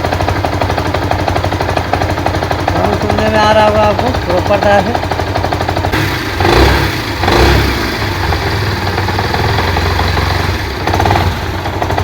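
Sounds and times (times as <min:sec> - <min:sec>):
motorcycle engine idling: 0:00.0 - 0:12.0
rapid engine knocking: 0:00.0 - 0:12.0.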